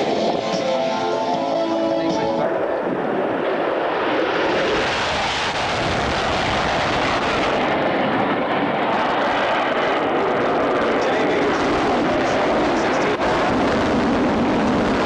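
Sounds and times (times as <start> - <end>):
aircraft engine flying past: 0.0 - 15.0.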